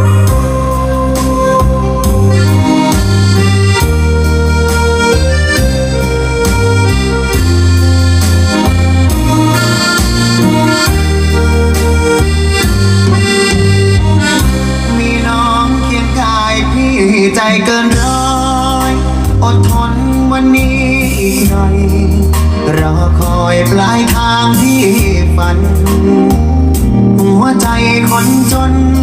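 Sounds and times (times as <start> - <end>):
heavy bass line: 0.0 - 29.0
melodic lead line: 0.0 - 29.0.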